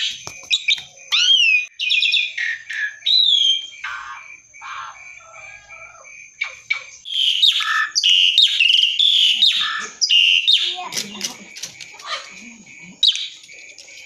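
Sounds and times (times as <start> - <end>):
starling singing: 0.0 - 14.0.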